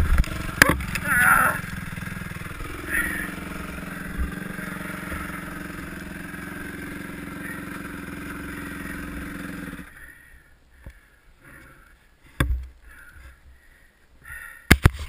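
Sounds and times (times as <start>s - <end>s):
dirt bike engine at low revs: 0.0s - 15.0s.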